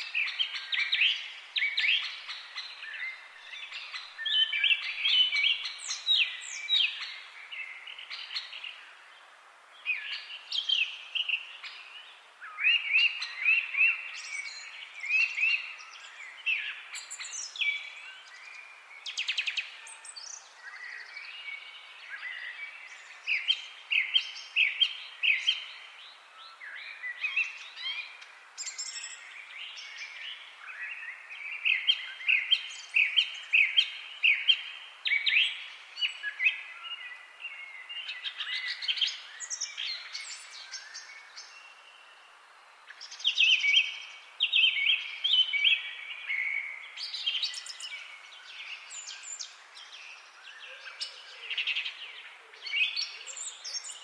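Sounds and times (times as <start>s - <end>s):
faint steady hiss: 0.0s - 54.0s
songbirds chirping: 0.0s - 54.0s.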